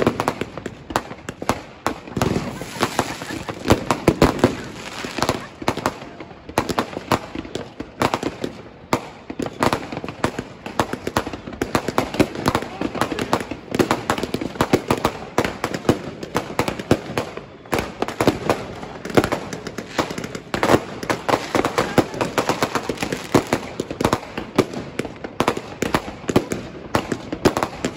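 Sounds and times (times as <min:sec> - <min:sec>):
fireworks and firecrackers banging: 0:00.0 - 0:27.9.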